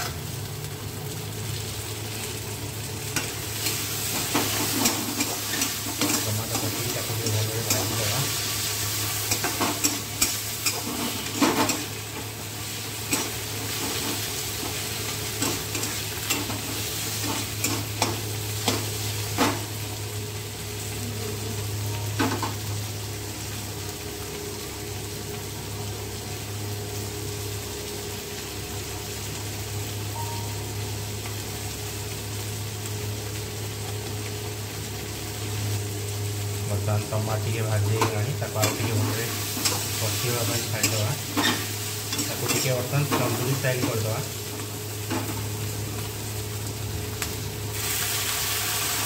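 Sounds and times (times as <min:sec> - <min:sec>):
onions sizzling in hot oil: 0:00.0 - 0:49.0.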